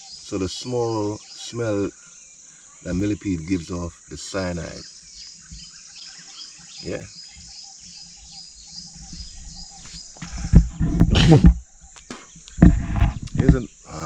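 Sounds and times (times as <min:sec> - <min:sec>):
insects chirping high-pitched: 0:00.0 - 0:14.0
lower pulsed insect call: 0:00.0 - 0:14.0.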